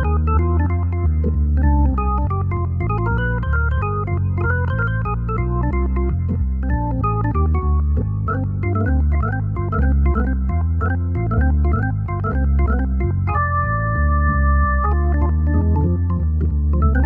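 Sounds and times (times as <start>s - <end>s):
organ playing blues riff: 0.0s - 17.0s.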